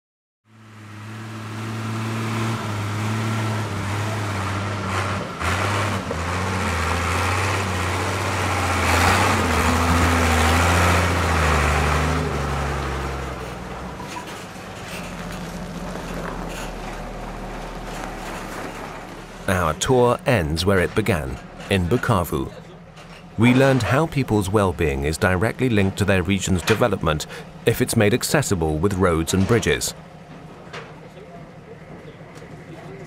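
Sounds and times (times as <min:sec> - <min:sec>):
diesel truck engine revving: 0:00.5 - 0:30.7.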